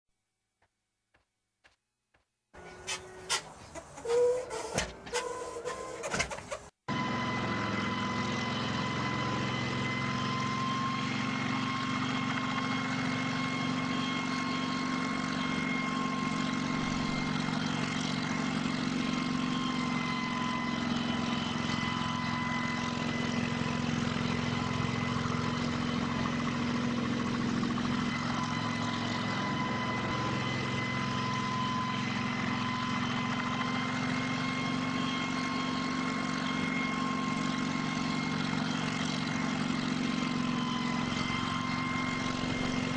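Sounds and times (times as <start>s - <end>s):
helicopter engine drone: 2.6s - 42.9s.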